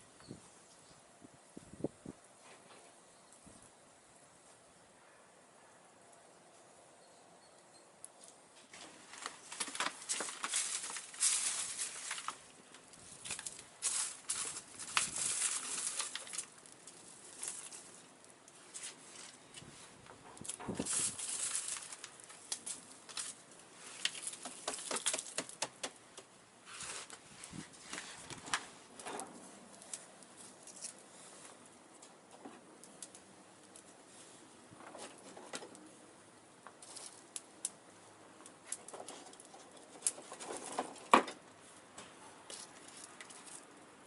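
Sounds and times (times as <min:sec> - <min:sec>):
dry leaves and twigs crackling: 0:08.1 - 0:44.0.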